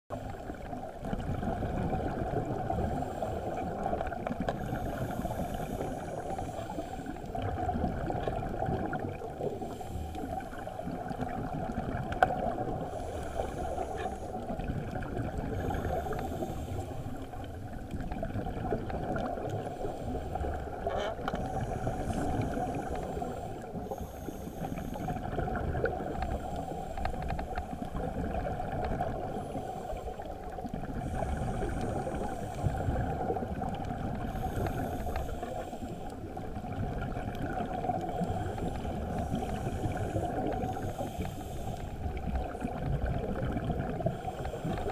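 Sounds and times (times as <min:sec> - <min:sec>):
muffled underwater rush: 0:00.1 - 0:44.9.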